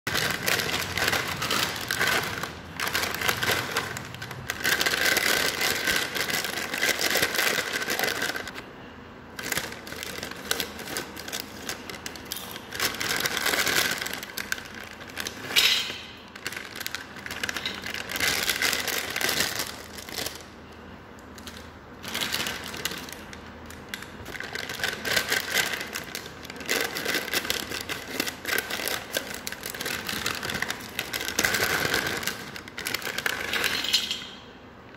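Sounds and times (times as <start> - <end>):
plastic packets crinkling: 0.1 - 8.7, 9.3 - 20.6, 21.2 - 34.2.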